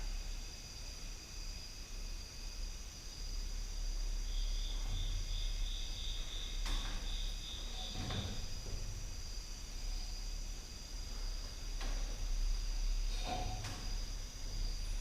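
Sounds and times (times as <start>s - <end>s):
cricket chirping: 0.0s - 15.0s
steady low hum: 0.0s - 15.0s.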